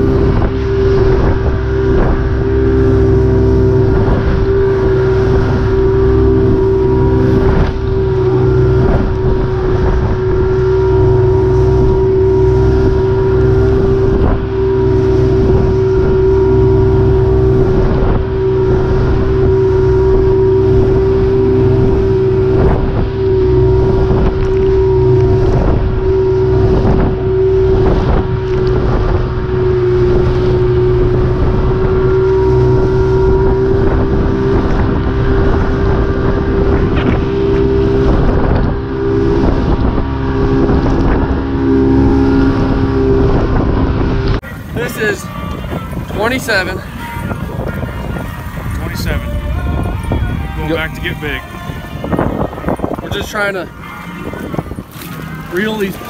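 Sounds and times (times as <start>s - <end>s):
hull slapping waves: 0.0s - 56.0s
motorboat engine droning: 0.0s - 56.0s.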